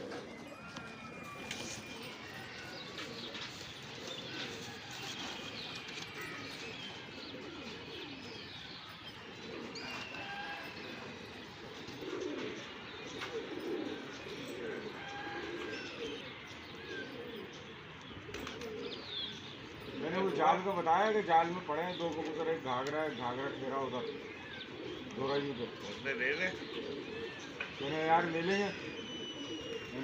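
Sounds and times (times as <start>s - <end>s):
pigeons cooing: 0.0s - 30.0s
small birds chirping: 0.0s - 30.0s.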